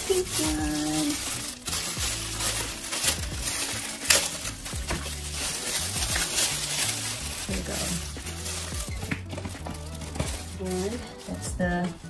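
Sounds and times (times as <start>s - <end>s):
background music with bass: 0.0s - 12.0s
plastic bag crinkling: 0.0s - 12.0s.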